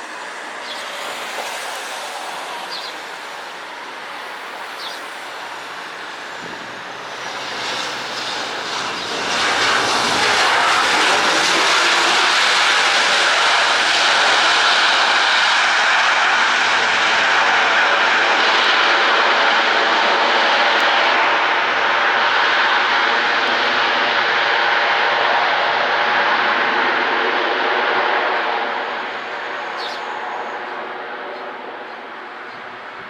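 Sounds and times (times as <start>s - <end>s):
jet airliner engines: 0.0s - 33.0s.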